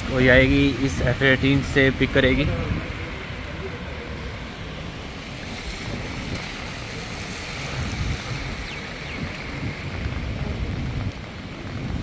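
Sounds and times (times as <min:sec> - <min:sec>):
heavy rain hissing: 0:00.0 - 0:12.0
wind buffeting microphone: 0:00.0 - 0:12.0.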